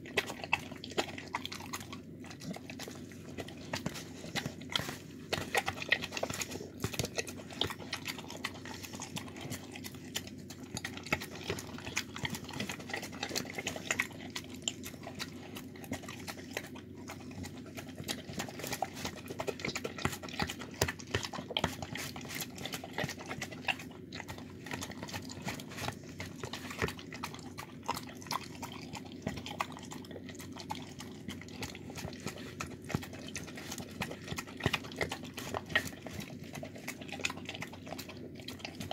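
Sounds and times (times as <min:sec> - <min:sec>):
dog licking plastic tub: 0:00.0 - 0:38.9
steady low hum: 0:00.0 - 0:38.9.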